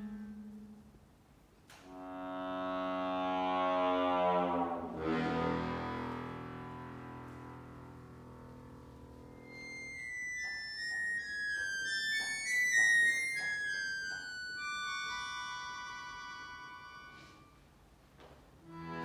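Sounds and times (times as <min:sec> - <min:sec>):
solo accordion: 0:01.9 - 0:17.6, 0:18.6 - 0:19.0.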